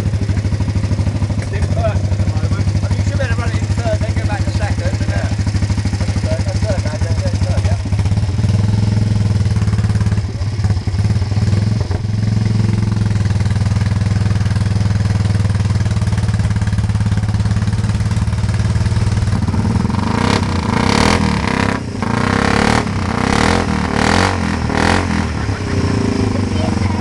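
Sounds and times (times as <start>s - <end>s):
motorcycle engine steady note: 0.0s - 27.0s
motorcycle engines revving: 0.0s - 27.0s.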